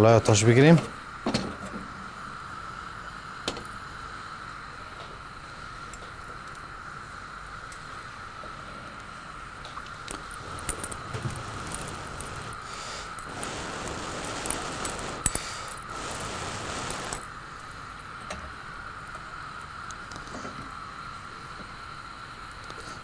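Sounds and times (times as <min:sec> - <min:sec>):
gas flame hissing: 0:00.0 - 0:23.0.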